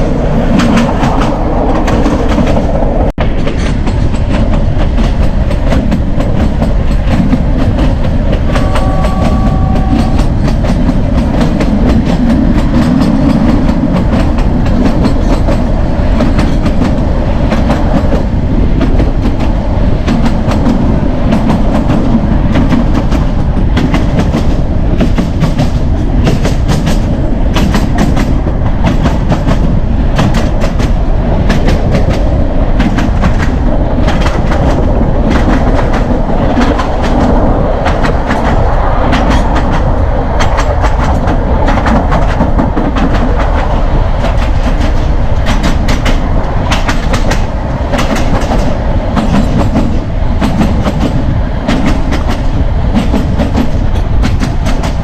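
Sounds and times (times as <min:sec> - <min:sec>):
train rolling rumble: 0:00.0 - 0:55.0
train wheels clicking over rail joints: 0:00.0 - 0:55.0.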